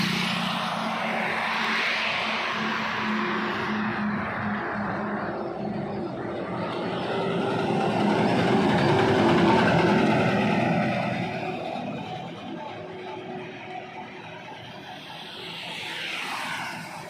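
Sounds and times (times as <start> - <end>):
heavy truck driving past: 2.1 - 17.0.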